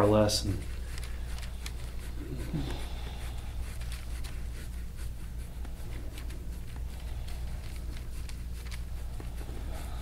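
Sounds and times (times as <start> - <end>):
scratchy rubbing on skin: 0.0 - 10.0
steady low hum: 0.0 - 10.0.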